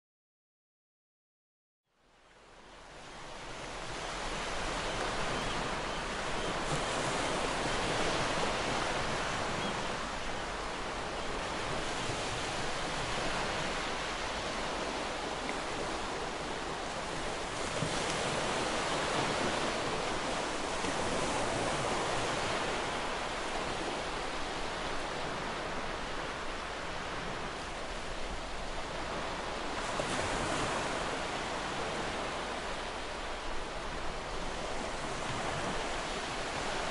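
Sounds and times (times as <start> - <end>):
ocean waves breaking: 3.3 - 36.9.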